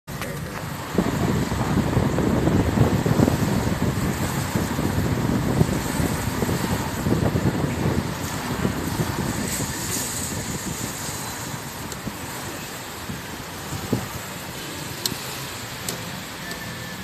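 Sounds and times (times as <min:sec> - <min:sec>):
car road noise on wet street: 0:00.1 - 0:17.0.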